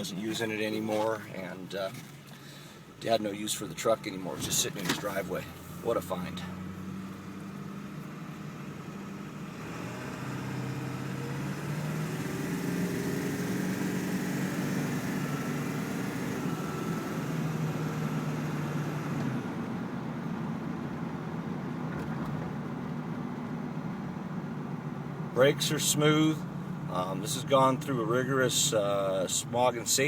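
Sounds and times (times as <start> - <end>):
diesel truck engine accelerating: 0.0 - 30.0.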